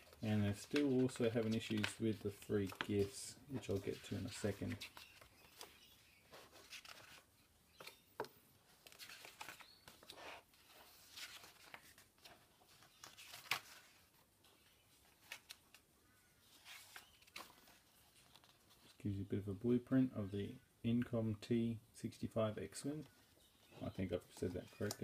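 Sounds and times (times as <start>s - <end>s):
magazine pages turning: 0.0s - 19.0s, 23.1s - 25.0s.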